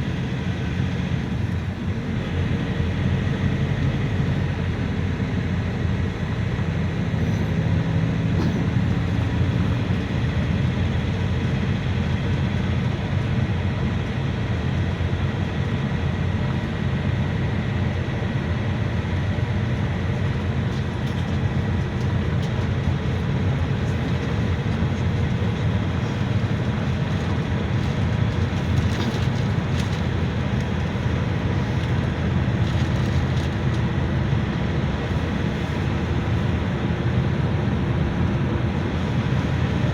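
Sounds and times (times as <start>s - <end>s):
minibus engine drone: 0.0s - 39.9s
road and tyre noise: 0.0s - 39.9s.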